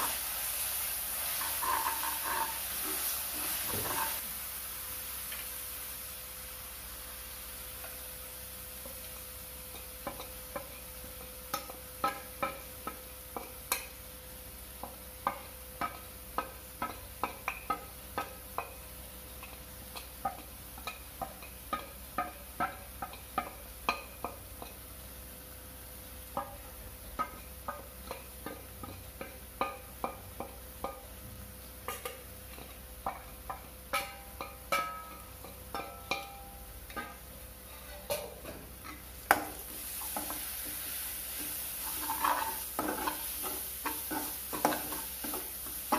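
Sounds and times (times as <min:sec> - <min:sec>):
food sizzling in a frying pan: 0:00.0 - 0:45.9.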